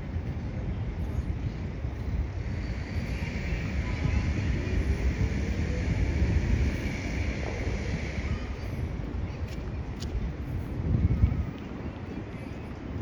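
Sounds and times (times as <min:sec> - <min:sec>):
low rumble of traffic: 0:00.0 - 0:13.0
wind buffeting microphone: 0:00.0 - 0:13.0.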